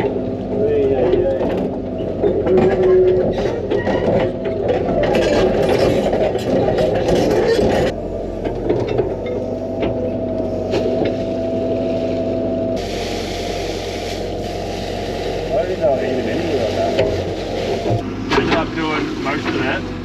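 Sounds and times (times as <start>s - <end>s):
excavator diesel engine under load: 0.0s - 20.0s
hydraulic whine: 0.0s - 20.0s.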